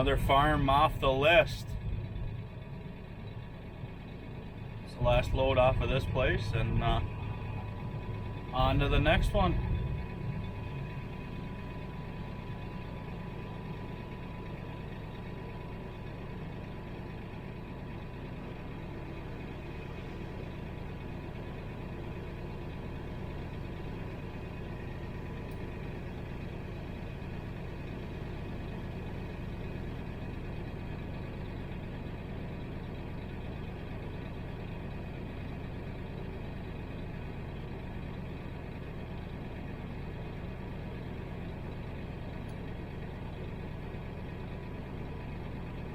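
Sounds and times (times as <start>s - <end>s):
heavy vehicle engine running: 0.0s - 45.9s.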